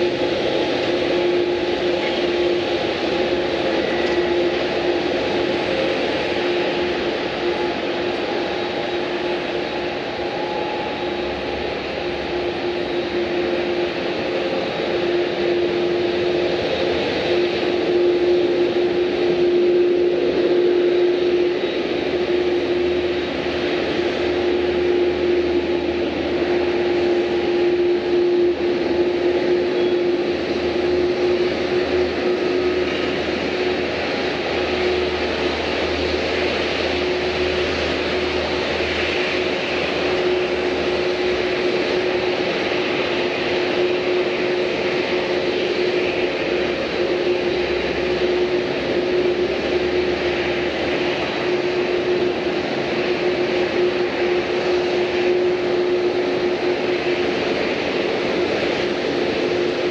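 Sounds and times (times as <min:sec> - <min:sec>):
airliner engines droning: 0:00.0 - 0:59.9.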